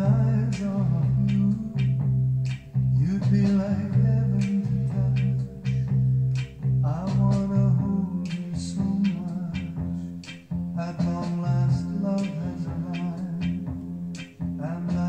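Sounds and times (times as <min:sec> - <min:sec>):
plucked guitar: 0:00.0 - 0:15.0
strong bass line: 0:00.0 - 0:15.0.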